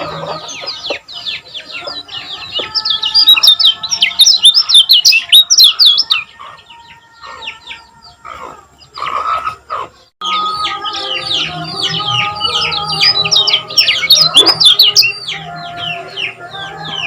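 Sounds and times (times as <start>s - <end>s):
bird singing high chirps: 0.0s - 8.2s, 10.0s - 17.0s.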